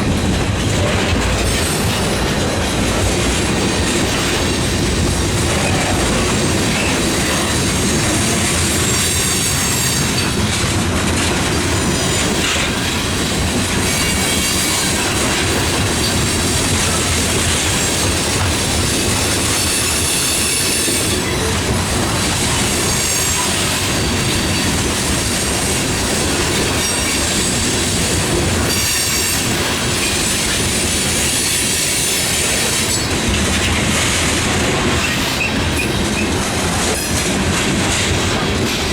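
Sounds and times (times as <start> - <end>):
train wheels clattering: 0.0 - 38.9.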